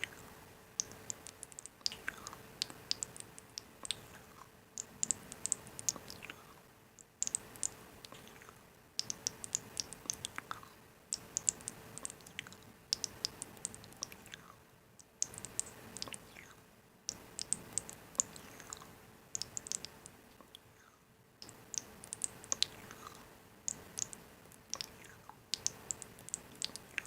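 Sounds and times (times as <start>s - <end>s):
sharp light clicks and crackles: 0.0s - 6.4s, 7.0s - 14.4s, 15.0s - 16.3s, 17.1s - 20.7s, 21.4s - 27.0s
faint hiss: 0.0s - 27.0s.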